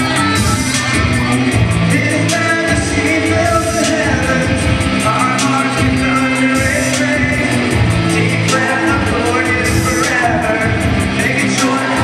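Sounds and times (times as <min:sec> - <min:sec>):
drum beat with cymbals: 0:00.0 - 0:12.0
guitar: 0:00.0 - 0:12.0
keyboard: 0:00.0 - 0:12.0
rapping vocals: 0:00.0 - 0:12.0.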